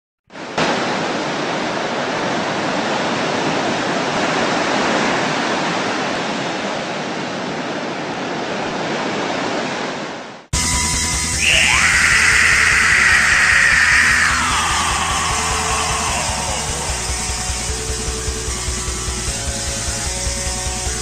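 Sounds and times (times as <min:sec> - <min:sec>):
sea surf rushing: 0:00.3 - 0:10.5, 0:11.3 - 0:21.0.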